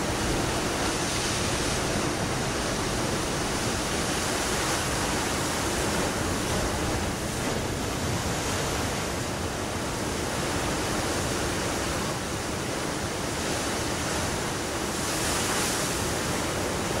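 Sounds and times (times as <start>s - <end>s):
surf washing over rocky shore: 0.0s - 17.0s.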